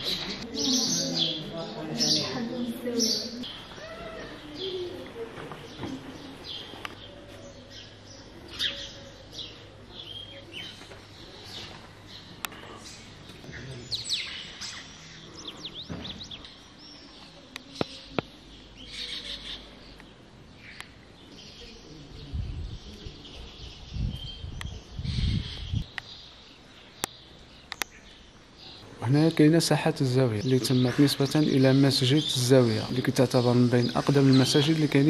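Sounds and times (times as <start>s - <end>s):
birds chirping and twittering: 0.0s - 35.0s.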